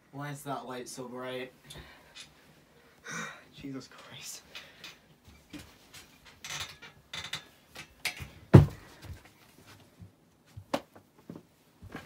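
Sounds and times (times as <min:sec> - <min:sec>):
rustling of clothes and bedding: 0:00.2 - 0:12.0.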